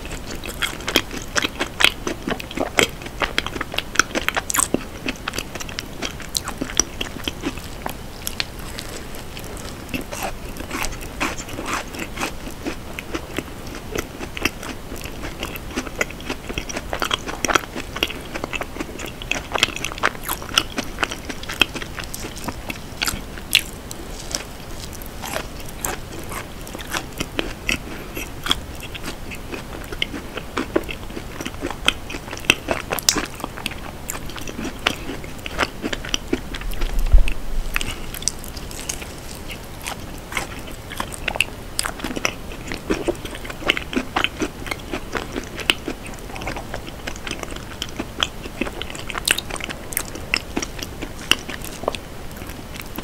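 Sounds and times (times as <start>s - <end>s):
chewing brownie with crunchy clicks: 0.0s - 53.0s.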